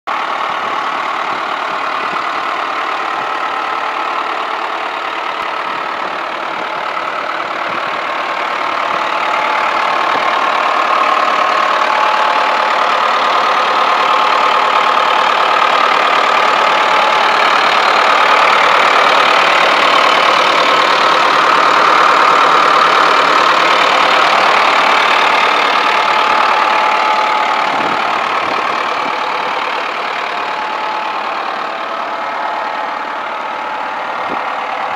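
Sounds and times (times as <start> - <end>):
diesel tractor engine idling: 0.0 - 34.9.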